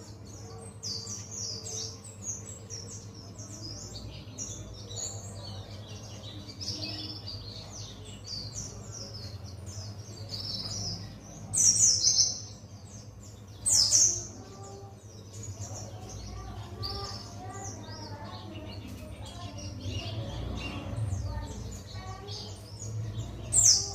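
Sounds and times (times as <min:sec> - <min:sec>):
bird chirping song: 0:00.0 - 0:23.9.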